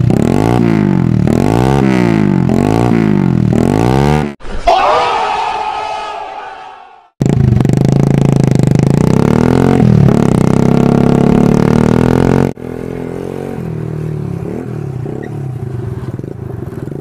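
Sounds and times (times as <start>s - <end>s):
loud motorcycle engine revving: 0.0s - 4.4s, 7.1s - 17.0s.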